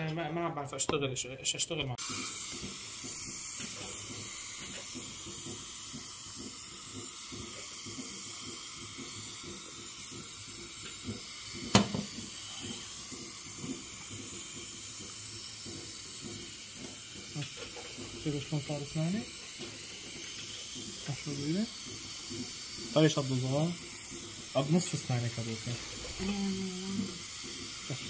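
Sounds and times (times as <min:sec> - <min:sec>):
dental suction hissing: 0:02.0 - 0:28.0.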